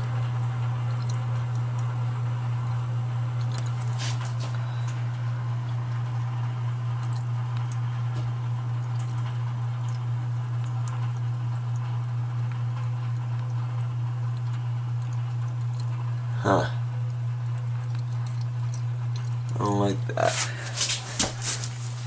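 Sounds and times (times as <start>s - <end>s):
well pump humming: 0.0s - 22.0s.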